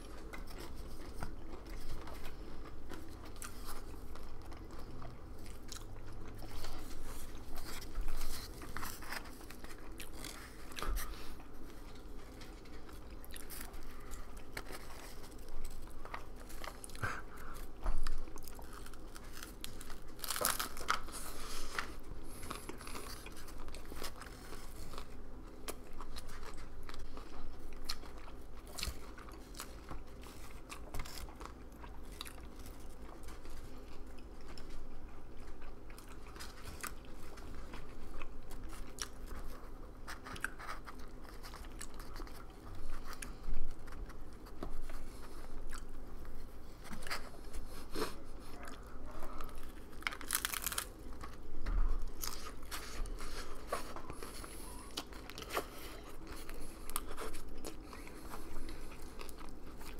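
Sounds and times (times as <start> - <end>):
crunching and clicks: 0.0 - 45.1, 48.8 - 59.9
person chewing food: 0.0 - 59.9.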